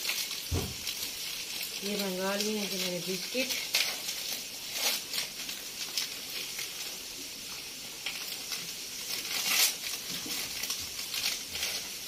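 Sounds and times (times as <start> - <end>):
plastic wrapper crinkling and tearing: 0.0 - 12.0
rain hissing: 0.0 - 12.0.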